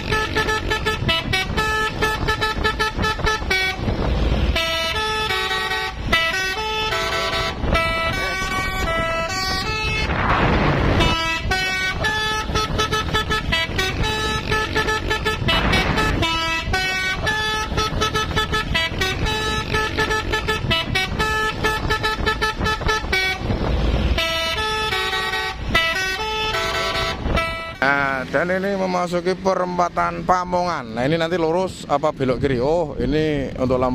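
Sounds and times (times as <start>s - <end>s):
multi-tone horn melody: 0.0s - 10.2s, 10.8s - 28.4s
low rumble of vehicles: 0.0s - 33.9s.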